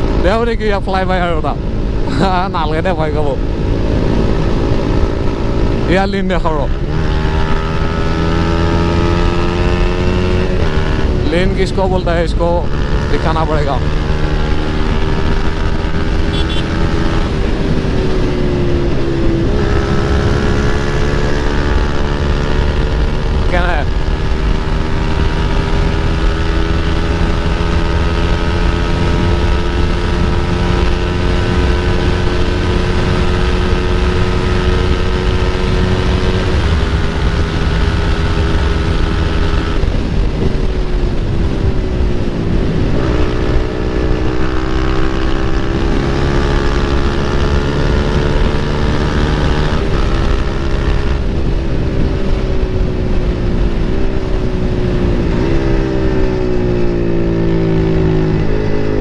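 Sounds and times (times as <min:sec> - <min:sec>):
motorcycle engine at speed: 0:00.0 - 0:59.0
wind rush: 0:00.0 - 0:59.0.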